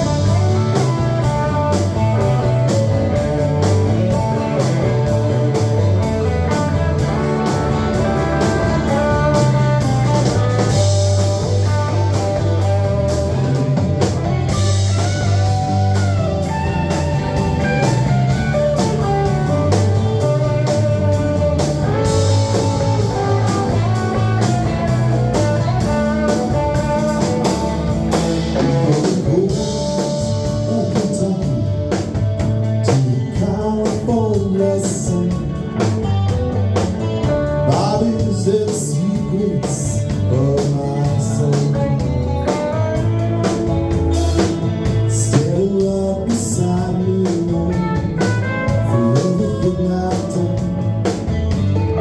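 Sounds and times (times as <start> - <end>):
bass guitar: 0.0 - 52.0
drum kit beat: 0.0 - 52.0
electric guitar: 0.0 - 52.0.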